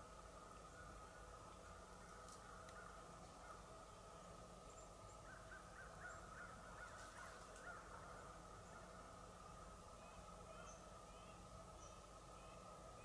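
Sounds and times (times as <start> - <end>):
faint forest ambience: 0.0 - 13.0.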